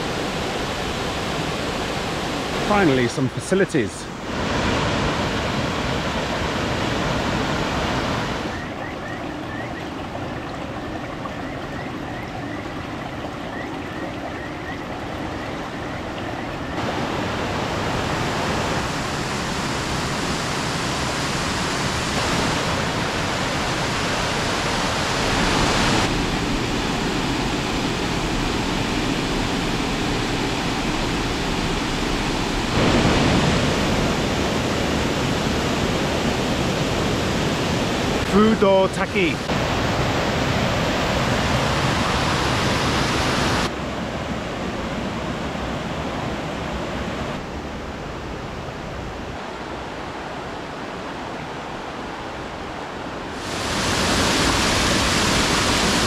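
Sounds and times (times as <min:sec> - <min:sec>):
water rushing over boulders: 0:00.0 - 0:56.0.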